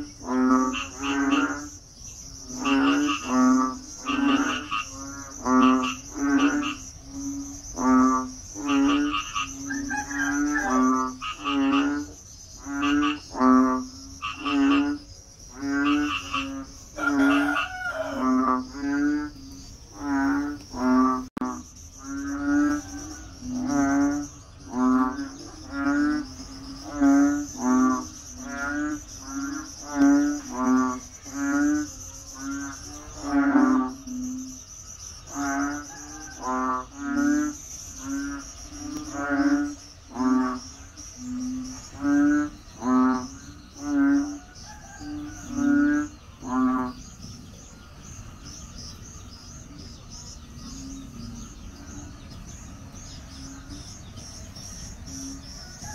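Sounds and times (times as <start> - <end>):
frog croaking: 0.0 - 55.9
insects buzzing: 0.0 - 55.9.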